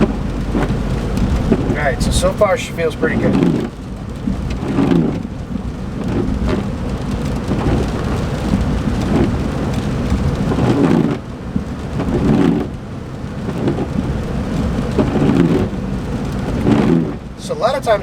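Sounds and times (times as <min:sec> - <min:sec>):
in-cabin road and engine rumble: 0:00.0 - 0:18.0.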